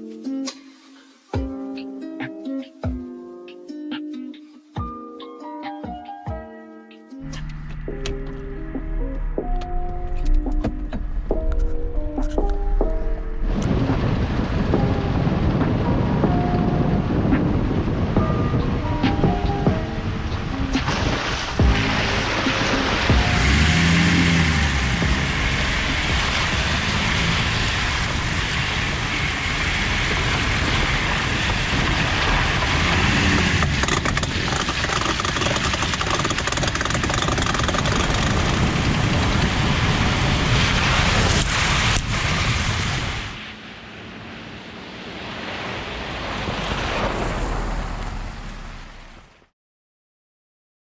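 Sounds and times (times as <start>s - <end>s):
wind and road noise: 7.2s - 49.5s.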